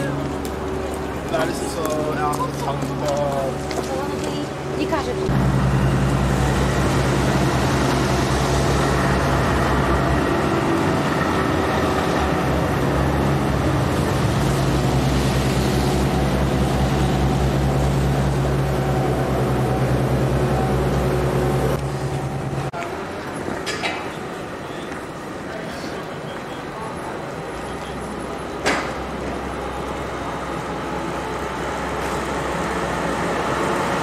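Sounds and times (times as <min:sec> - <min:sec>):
tram running: 0:00.0 - 0:34.0.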